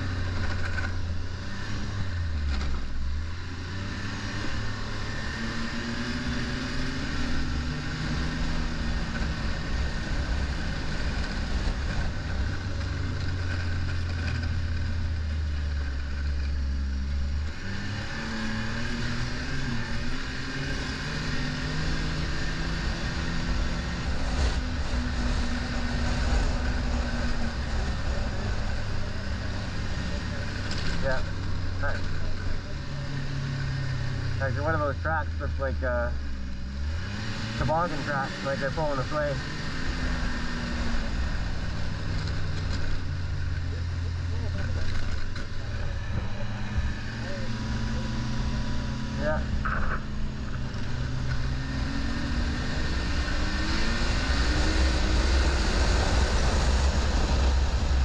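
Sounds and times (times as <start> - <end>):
snowmobile engine droning: 0.0 - 58.0.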